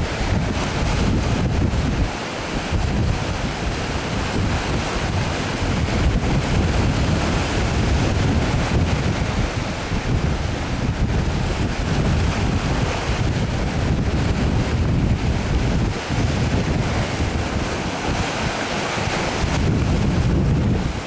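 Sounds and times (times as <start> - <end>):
wash of water: 0.0 - 21.0
wind buffeting microphone: 0.0 - 21.0.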